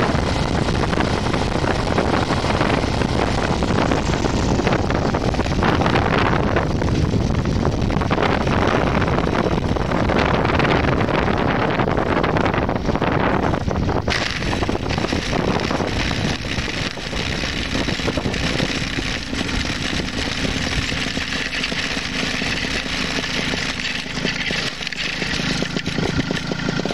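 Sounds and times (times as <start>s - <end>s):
paramotor engine running: 0.0s - 26.9s
wind rushing on microphone: 0.0s - 26.9s.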